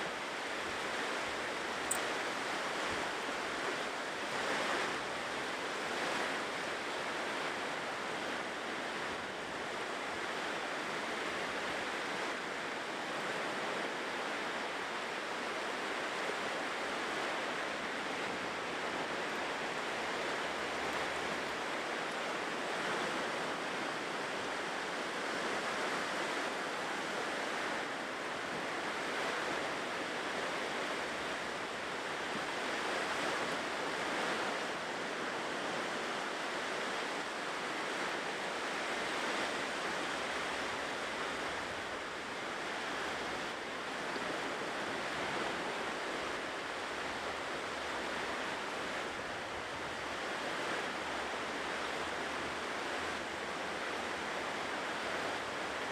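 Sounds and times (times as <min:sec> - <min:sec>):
ocean waves washing onto shore: 0:00.0 - 0:55.9.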